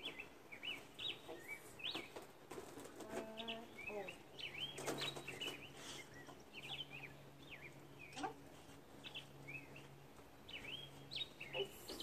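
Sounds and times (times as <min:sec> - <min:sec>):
small songbirds chirping: 0:00.0 - 0:02.3, 0:03.2 - 0:12.0.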